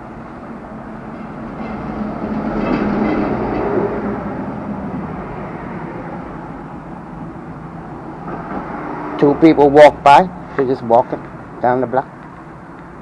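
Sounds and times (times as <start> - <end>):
vehicle passing by: 1.4 - 12.0.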